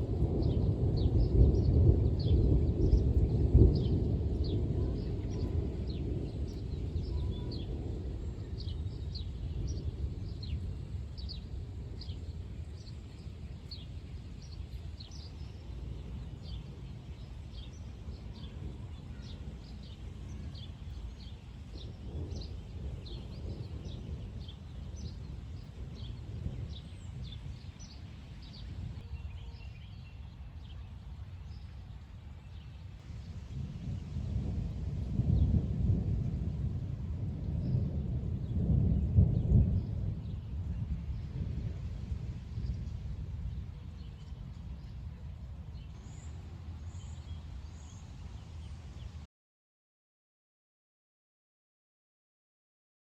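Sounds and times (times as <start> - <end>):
distant thunder rumbling: 0.0 - 29.6, 32.8 - 48.0.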